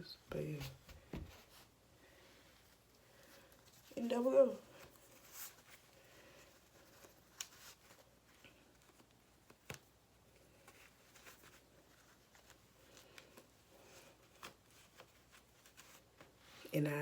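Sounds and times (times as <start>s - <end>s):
faint clicks and rustles: 2.4s - 16.8s.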